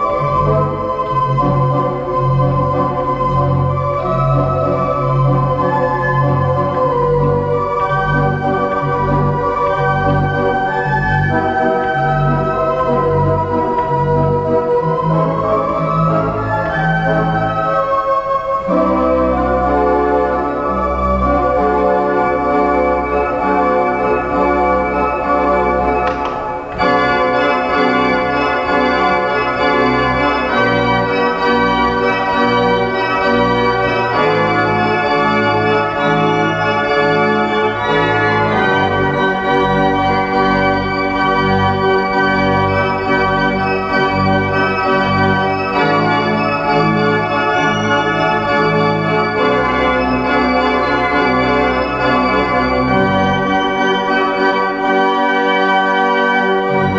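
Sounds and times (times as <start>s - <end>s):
organ playing slow chords: 0.0s - 56.9s.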